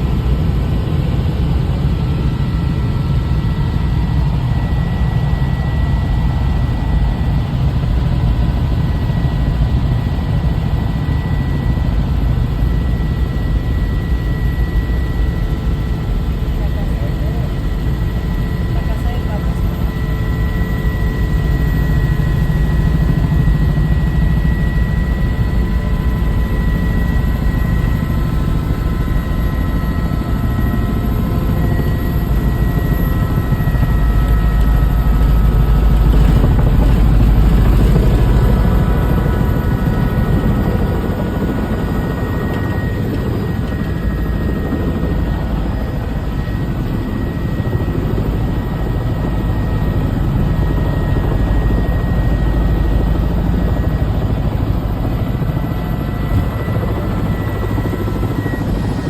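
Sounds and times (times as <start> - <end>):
constant whine: 0.0 - 59.0
helicopter rotor and engine drone: 0.0 - 59.0.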